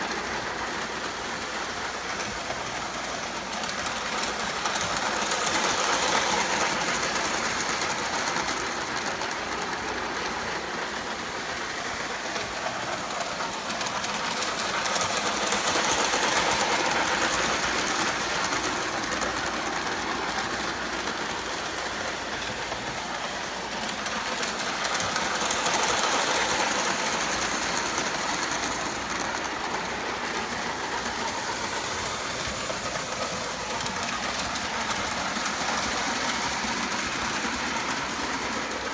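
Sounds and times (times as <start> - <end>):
toy train motor whir: 0.0 - 38.9
wheels clattering on rails: 0.0 - 38.9.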